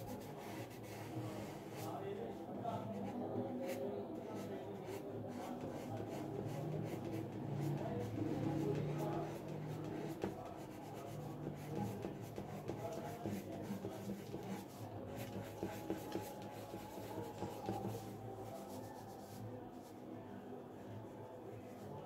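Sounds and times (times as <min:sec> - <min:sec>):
pencil scratching on paper: 0:00.0 - 0:02.0, 0:03.0 - 0:19.4.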